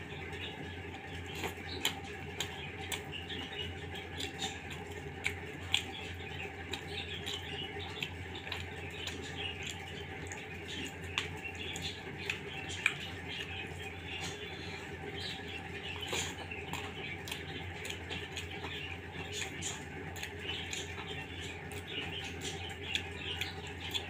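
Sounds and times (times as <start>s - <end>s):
low hum: 0.0s - 24.0s
fingers squishing food on a plate: 0.2s - 24.0s.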